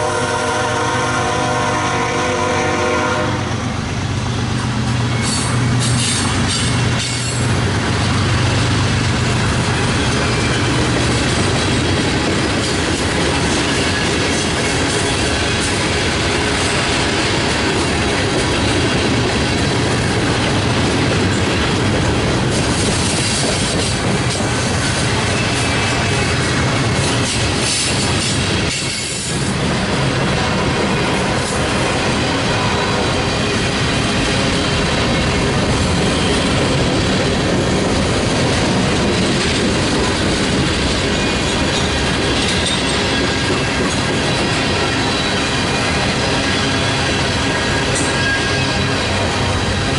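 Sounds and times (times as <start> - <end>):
diesel locomotive engine drone: 0.0 - 49.9
train wheels rumbling on rails: 0.0 - 49.9.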